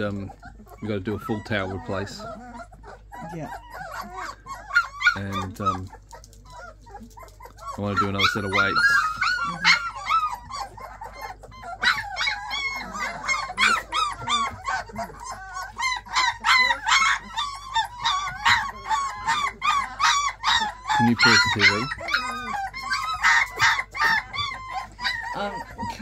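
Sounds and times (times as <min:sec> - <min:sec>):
puppies yipping and squealing: 0:00.0 - 0:26.0.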